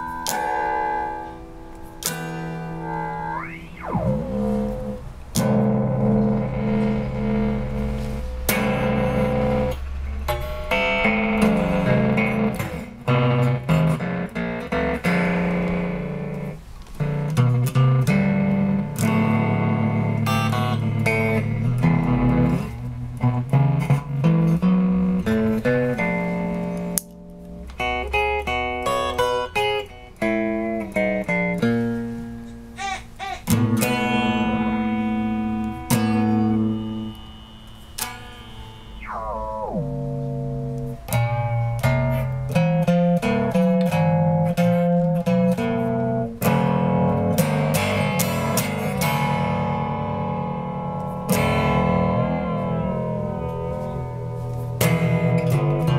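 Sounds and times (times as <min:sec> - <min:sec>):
electric guitar notes and chords: 0:00.0 - 0:55.9.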